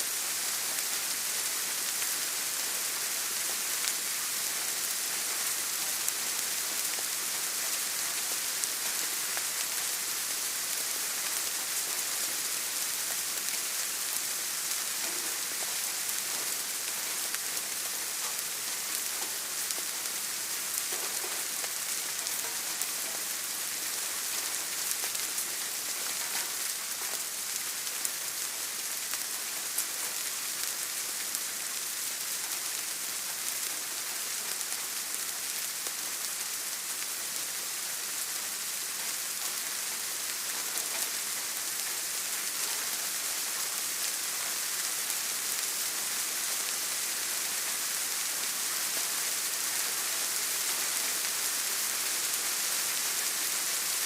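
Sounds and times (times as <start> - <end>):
scattered raindrops: 0.0 - 54.0
steady rain falling: 0.0 - 54.0.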